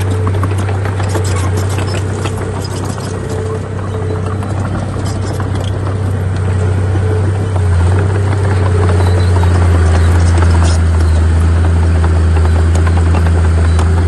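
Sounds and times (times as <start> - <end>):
diesel machinery engine hum: 0.0 - 14.0.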